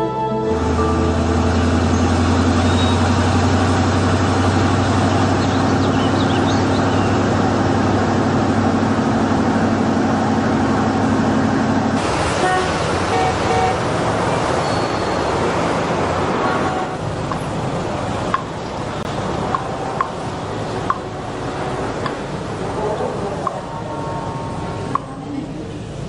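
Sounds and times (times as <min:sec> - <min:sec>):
street traffic noise: 0:00.0 - 0:26.0
vehicle engine running: 0:00.5 - 0:26.0.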